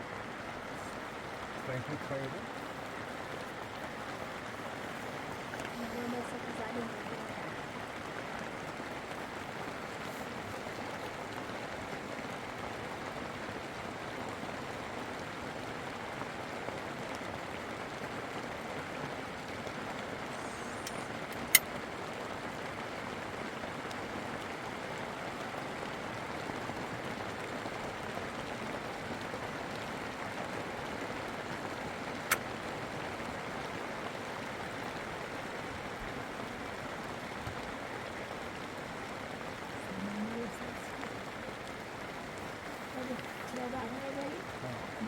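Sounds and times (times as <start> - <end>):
running water rushing: 0.0 - 45.0.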